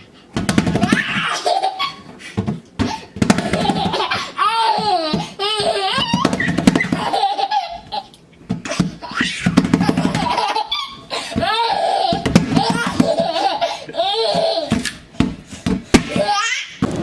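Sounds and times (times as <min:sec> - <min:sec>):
baby laughing: 0:00.7 - 0:02.1, 0:02.8 - 0:14.9, 0:16.1 - 0:16.8.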